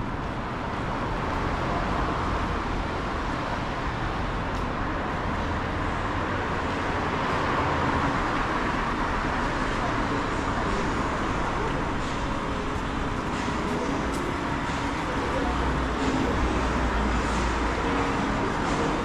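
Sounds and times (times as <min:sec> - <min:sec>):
passing cars: 0:00.0 - 0:19.0.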